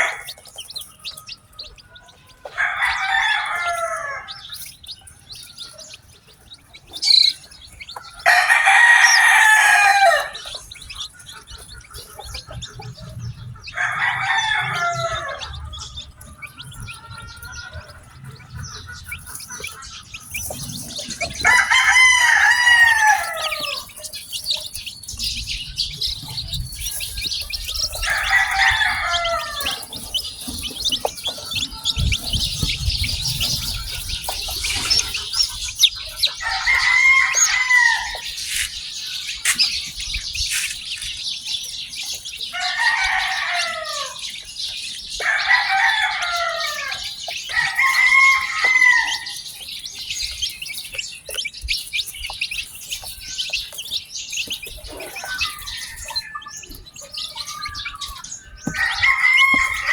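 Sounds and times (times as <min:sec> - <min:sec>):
chicken calling: 0:00.0 - 0:59.9
chicks peeping: 0:00.0 - 0:59.9.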